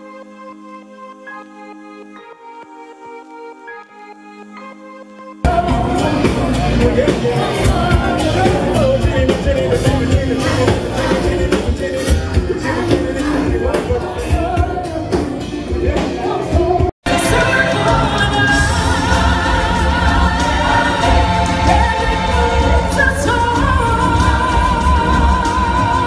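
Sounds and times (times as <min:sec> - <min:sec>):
loud music: 0:00.0 - 0:26.0.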